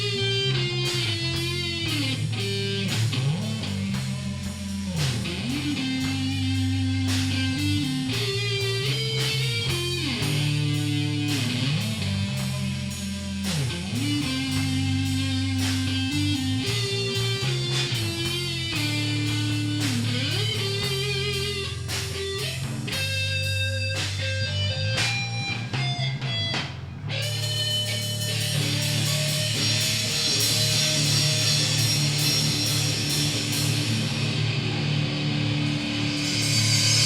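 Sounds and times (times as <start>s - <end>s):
electric guitar bends: 0.0s - 37.0s
rock band playing: 0.0s - 37.0s.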